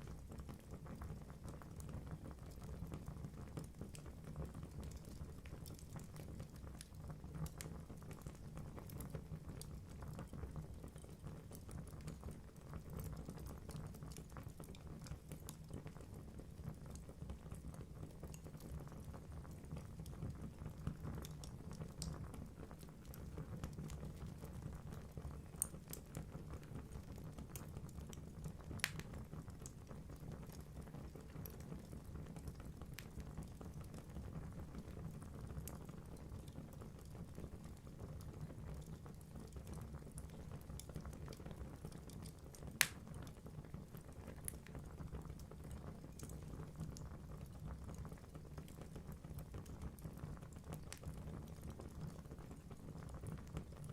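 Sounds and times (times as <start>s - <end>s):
fire crackling and popping: 0.0s - 53.9s
rumble of fire flames: 0.0s - 53.9s.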